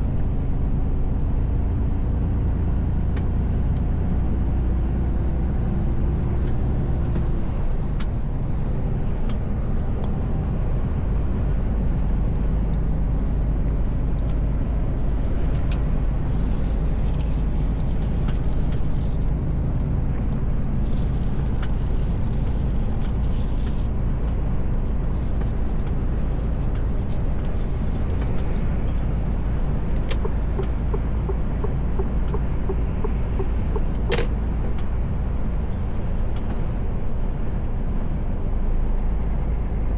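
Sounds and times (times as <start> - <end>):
road rumble: 0.0 - 39.9
truck diesel engine: 0.0 - 39.9.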